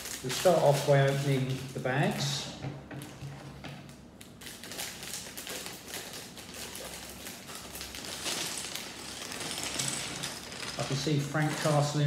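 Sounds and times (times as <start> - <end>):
plastic bags crinkling: 0.0 - 2.4, 3.8 - 12.0.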